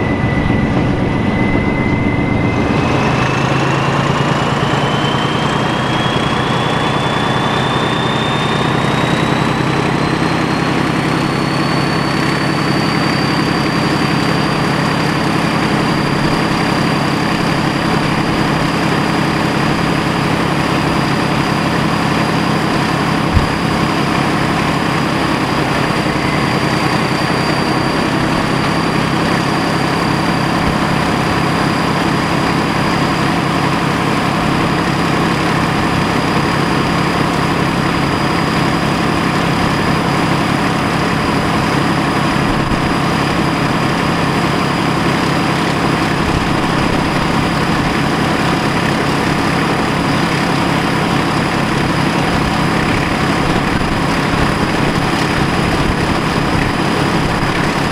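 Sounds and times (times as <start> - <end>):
locomotive diesel engine running: 0.0 - 57.9
wheel and rail noise: 0.0 - 57.9.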